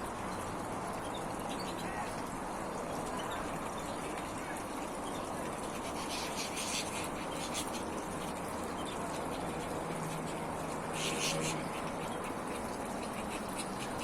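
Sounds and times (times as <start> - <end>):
fountain trickling over rock: 0.0 - 14.0.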